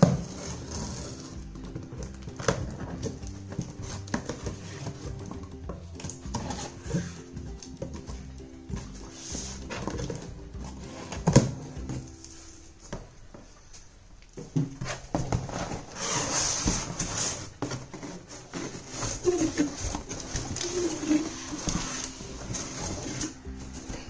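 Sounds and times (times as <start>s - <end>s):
cardboard scraping: 0.0s - 13.0s, 14.7s - 24.0s
cardboard rustling: 0.0s - 24.0s.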